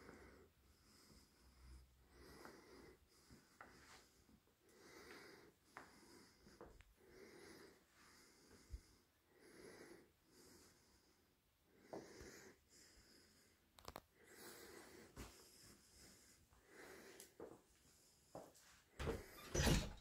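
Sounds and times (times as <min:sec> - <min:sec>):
faint breathing: 0:00.0 - 0:19.7.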